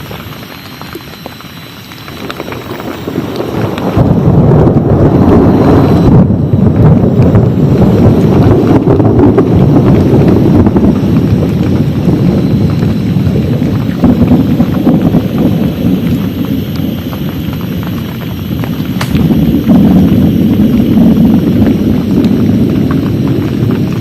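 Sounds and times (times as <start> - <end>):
heavy rain falling: 0.0 - 24.0
wind rumble on microphone: 0.0 - 24.0.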